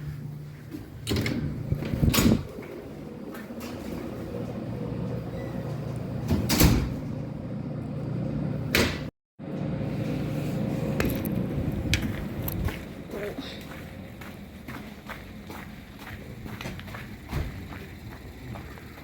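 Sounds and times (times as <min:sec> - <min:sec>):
running car rumble: 0:00.0 - 0:19.0.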